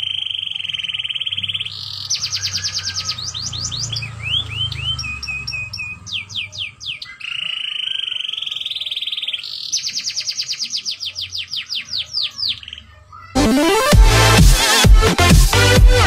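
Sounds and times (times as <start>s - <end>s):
canary singing: 0.0s - 14.8s.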